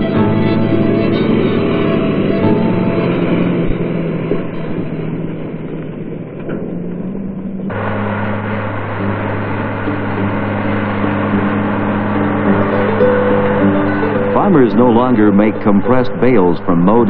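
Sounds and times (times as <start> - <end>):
background music with low notes: 0.0 - 6.2, 7.7 - 17.0.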